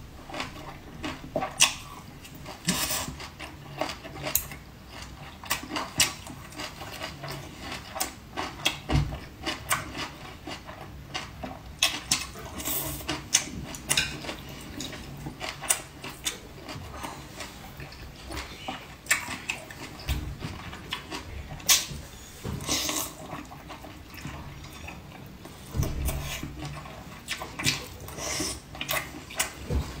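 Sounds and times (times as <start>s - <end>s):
chewing and slurping: 0.2s - 30.0s.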